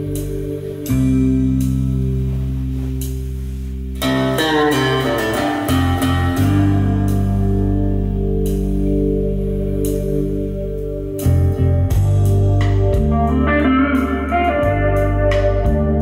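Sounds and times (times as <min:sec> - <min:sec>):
guitar music from a speaker: 0:00.0 - 0:16.0.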